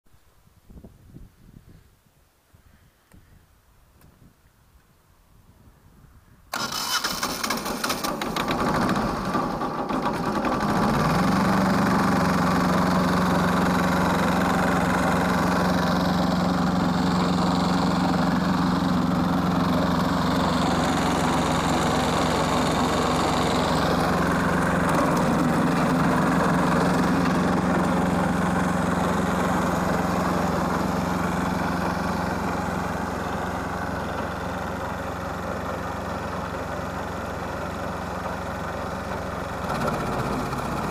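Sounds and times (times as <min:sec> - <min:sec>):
wood chipper engine starting: 0:06.5 - 0:40.9.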